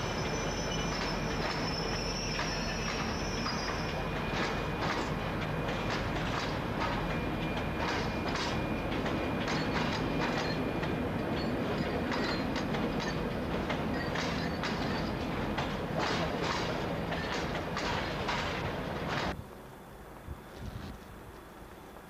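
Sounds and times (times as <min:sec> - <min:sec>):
freight train wheels clacking: 0:00.0 - 0:19.4
train rumble: 0:00.0 - 0:22.0.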